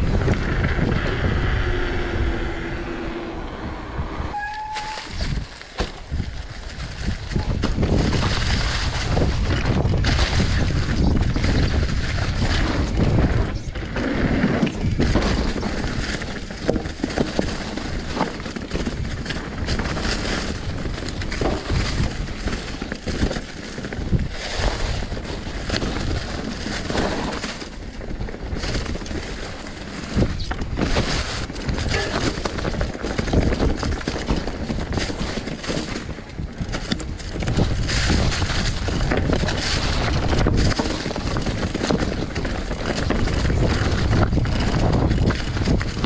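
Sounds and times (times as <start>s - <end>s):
bike rattling over bumps: 0.0s - 46.0s
bike tyres crunching leaves and rocks: 0.0s - 46.0s
wind rumbling on microphone: 0.0s - 46.0s.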